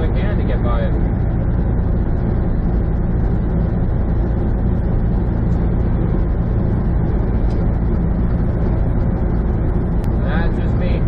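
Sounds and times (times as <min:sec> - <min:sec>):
diesel engine hum: 0:00.0 - 0:11.0
tyre and road noise: 0:00.0 - 0:11.0.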